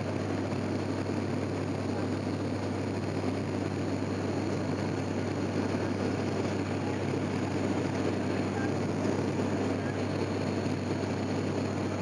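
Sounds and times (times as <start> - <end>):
propeller hum: 0.0 - 12.0.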